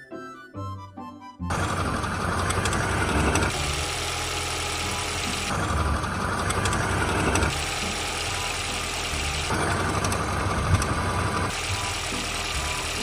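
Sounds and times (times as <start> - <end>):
car engine idling: 1.5 - 13.0.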